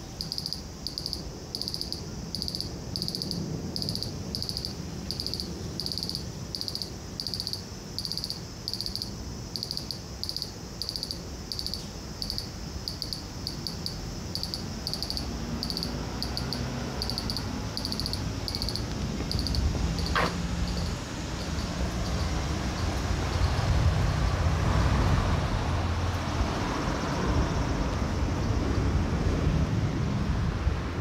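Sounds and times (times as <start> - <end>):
cicada buzzing trill: 0.0 - 26.1
low traffic rumble: 0.0 - 31.0.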